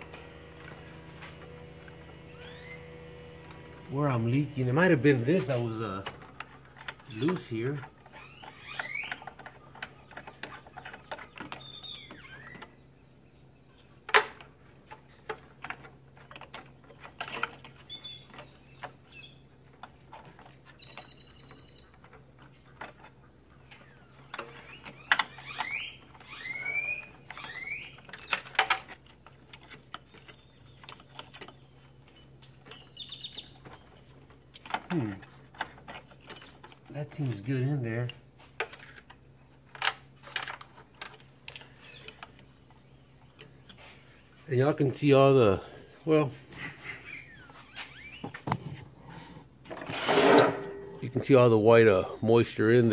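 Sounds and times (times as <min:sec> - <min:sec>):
birds chirping: 0:00.0 - 0:52.9
steady low hum: 0:00.0 - 0:52.9.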